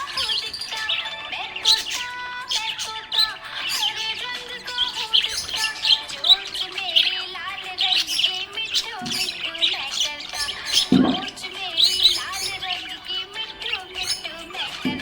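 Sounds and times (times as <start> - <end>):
budgerigar chirping: 0.0 - 15.0.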